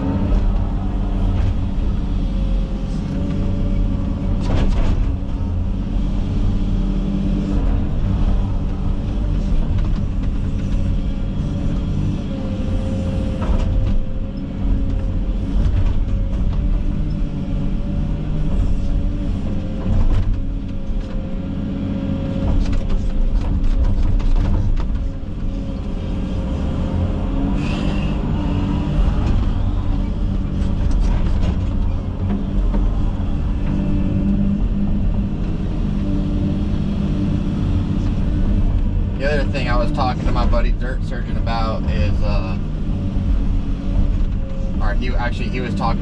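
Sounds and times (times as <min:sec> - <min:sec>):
excavator diesel engine running: 0:00.0 - 0:46.0
steady whine: 0:00.0 - 0:46.0.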